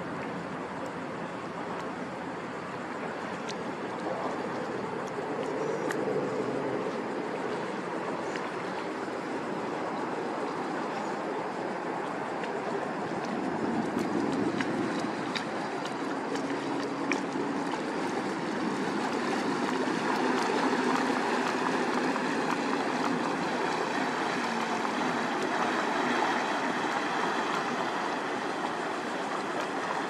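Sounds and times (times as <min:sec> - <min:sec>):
river water washing against pier: 0:00.0 - 0:30.0.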